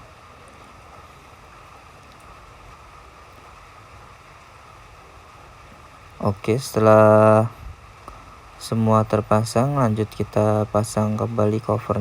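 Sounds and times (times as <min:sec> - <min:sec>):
faint room noise hiss: 0:00.0 - 0:12.0.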